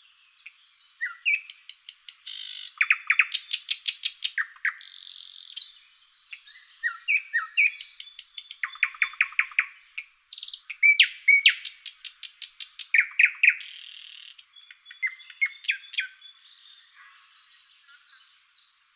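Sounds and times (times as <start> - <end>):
birdsong chirps and whistles: 0.0 - 18.9.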